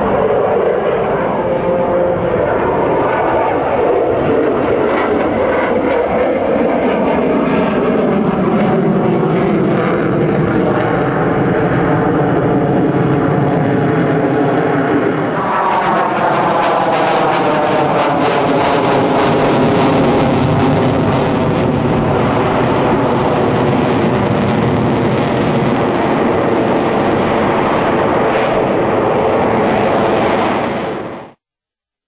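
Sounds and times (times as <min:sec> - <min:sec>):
jet flying past: 0:00.0 - 0:31.4.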